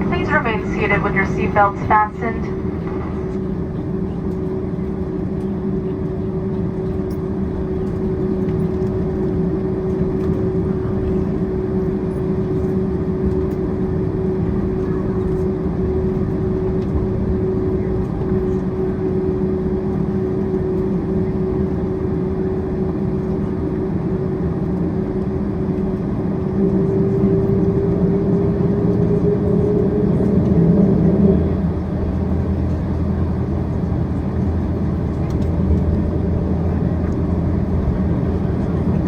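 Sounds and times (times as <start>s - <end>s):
jet engine whine: 0.0s - 39.0s
jet engines low rumble: 0.0s - 39.0s.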